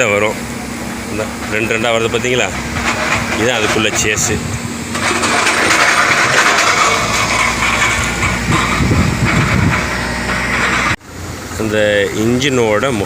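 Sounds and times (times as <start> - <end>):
vehicle engine running: 0.0 - 11.7.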